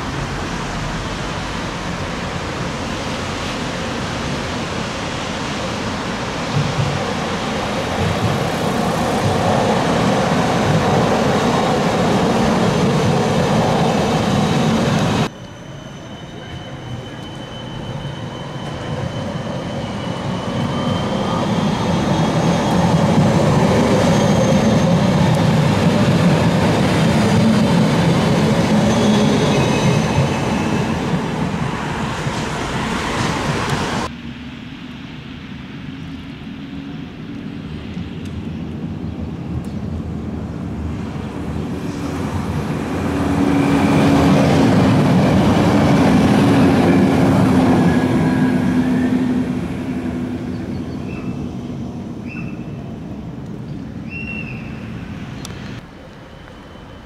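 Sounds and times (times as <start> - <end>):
high-pitched tram whine: 0.0 - 57.0
tram wheels rumbling on rails: 0.0 - 57.0.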